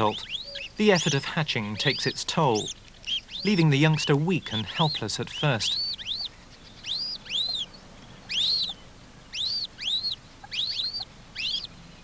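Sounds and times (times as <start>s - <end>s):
chicks peeping: 0.0s - 11.7s.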